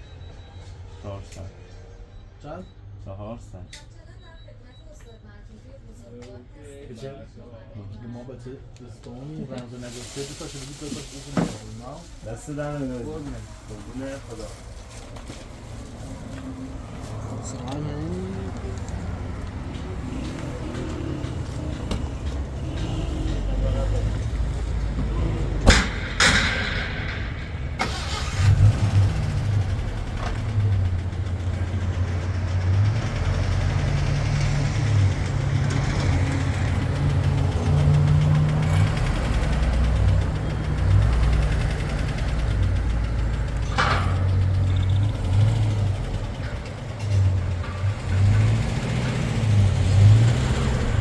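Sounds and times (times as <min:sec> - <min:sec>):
car engine rumbling: 0:09.6 - 0:51.0.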